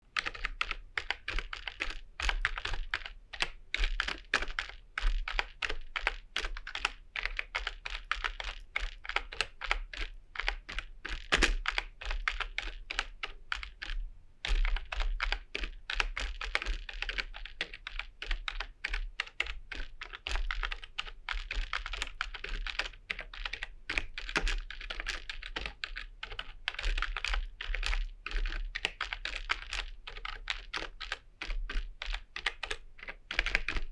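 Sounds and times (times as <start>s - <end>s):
computer keyboard typing: 0.1s - 33.9s.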